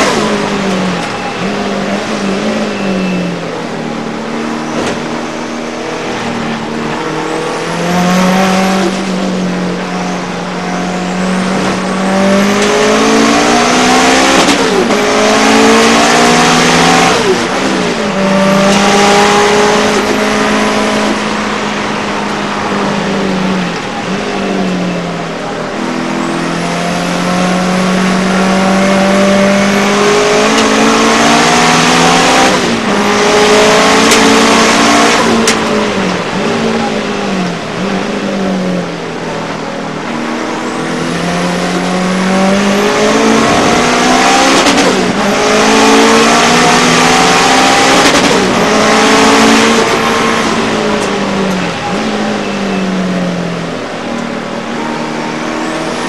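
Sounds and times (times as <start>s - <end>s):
race car downshifts: 0.0s - 56.0s
race car engine accelerating: 0.0s - 56.0s.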